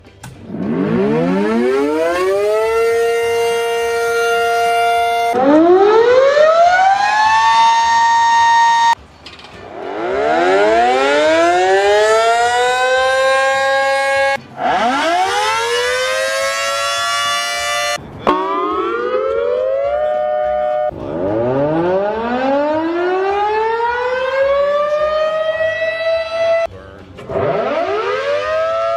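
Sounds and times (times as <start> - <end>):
warning sirens wailing: 0.4 - 9.0, 9.6 - 28.9.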